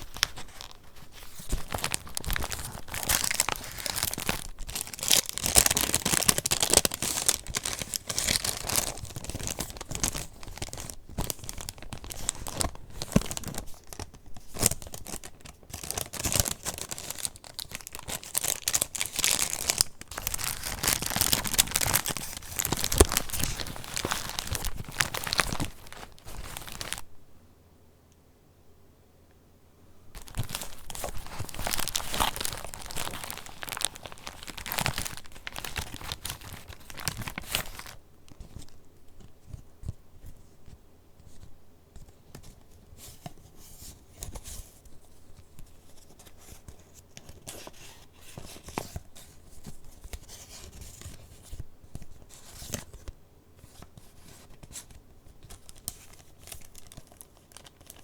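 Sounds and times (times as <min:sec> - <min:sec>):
paper rustling: 0:00.0 - 0:27.1, 0:30.1 - 0:58.0.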